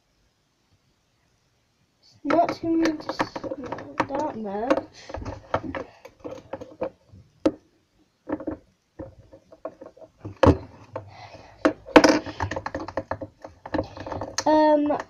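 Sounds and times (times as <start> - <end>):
stick tapping in plastic tub: 2.3 - 7.6, 8.3 - 15.0.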